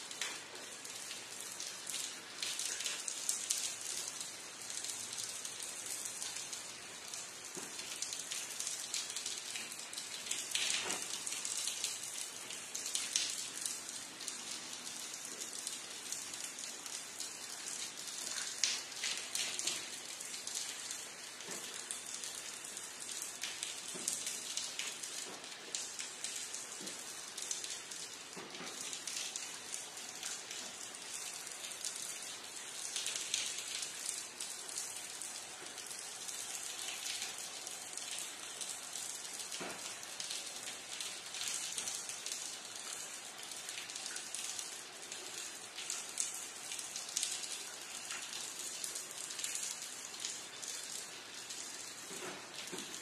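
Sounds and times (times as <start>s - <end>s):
steady rain: 0.0s - 53.0s
rain drop hits: 0.1s - 53.0s.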